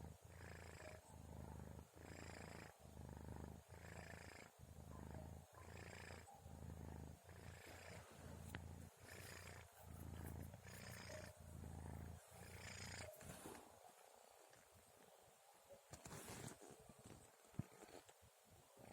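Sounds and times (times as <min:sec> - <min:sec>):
kitten purring softly: 0:00.0 - 0:15.0, 0:15.9 - 0:18.2.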